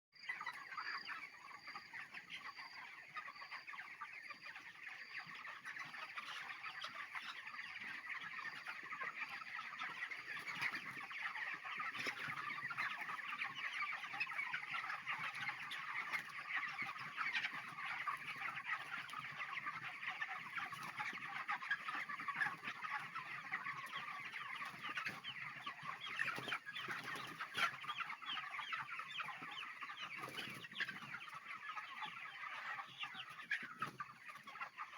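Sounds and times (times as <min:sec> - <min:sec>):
flock of chickens clucking: 0:00.2 - 0:34.9.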